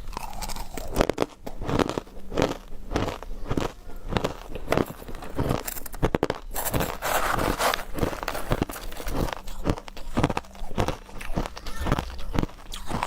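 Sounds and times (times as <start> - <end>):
person chewing ice: 0.0 - 13.0.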